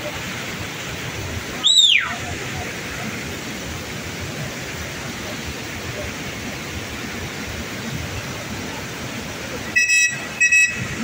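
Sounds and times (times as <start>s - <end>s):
river rapids and waterfall roaring: 0.0s - 11.0s.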